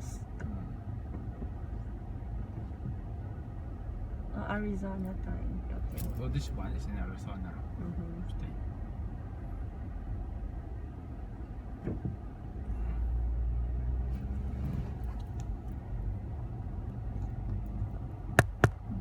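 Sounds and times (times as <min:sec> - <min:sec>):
car traffic rumble: 0:00.0 - 0:19.0.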